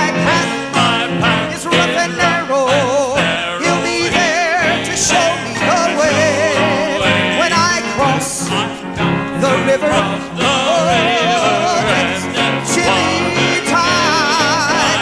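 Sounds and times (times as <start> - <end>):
band playing a steady beat: 0.0 - 15.0
men singing with vibrato: 0.0 - 15.0.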